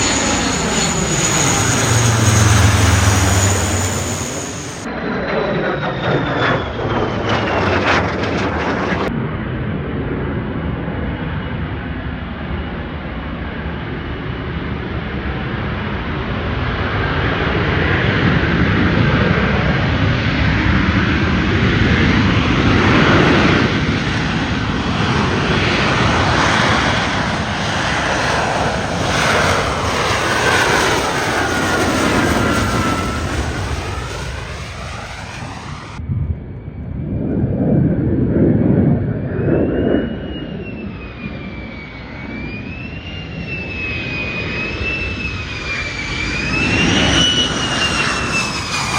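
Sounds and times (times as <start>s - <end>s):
fighter jet flyby: 0.0s - 48.9s
high wavering jet whine: 0.0s - 48.9s.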